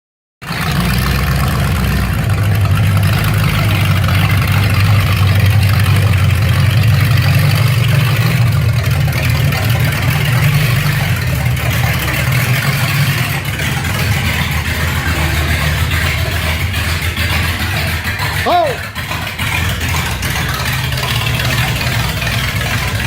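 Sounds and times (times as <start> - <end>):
engine running steadily: 0.4 - 23.0.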